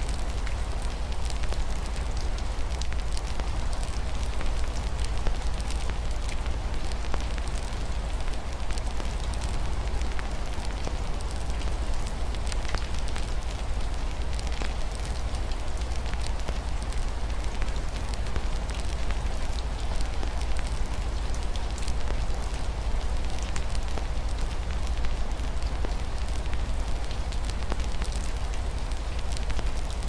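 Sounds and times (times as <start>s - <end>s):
rain on a window: 0.0s - 30.0s
wood fire crackling and popping: 0.0s - 30.0s.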